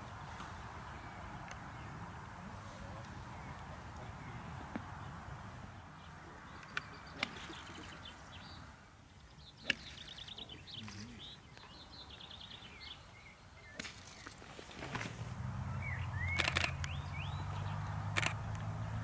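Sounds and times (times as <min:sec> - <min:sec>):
birds chirping: 0:00.0 - 0:19.0
faint outdoor background: 0:00.0 - 0:19.0.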